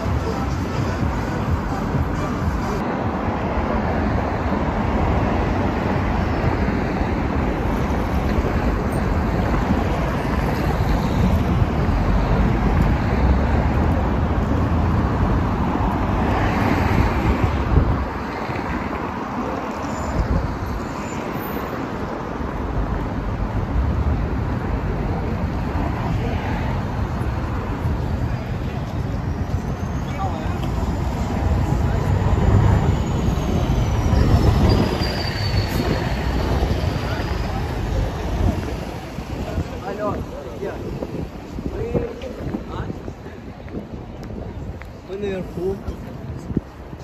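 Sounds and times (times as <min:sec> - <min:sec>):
passing cars and buses: 0:00.0 - 0:47.0.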